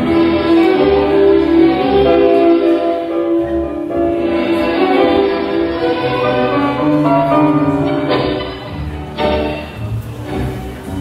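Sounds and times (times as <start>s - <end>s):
tango orchestra music: 0.0s - 11.0s.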